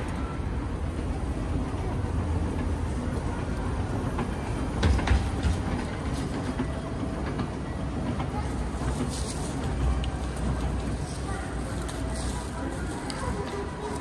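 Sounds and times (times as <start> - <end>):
trains rumbling: 0.0 - 14.0.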